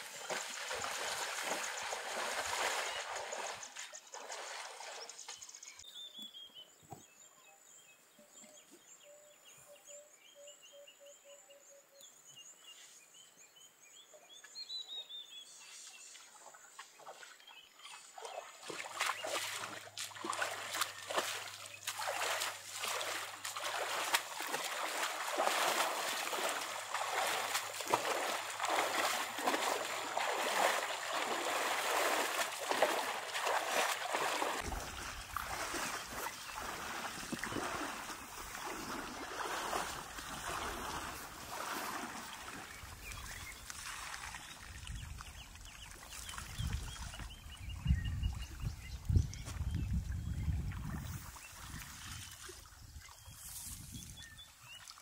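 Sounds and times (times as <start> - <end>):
water splashing around elephants: 0.0 - 5.5, 16.0 - 55.0
birds chirping: 0.0 - 11.7, 17.0 - 54.9.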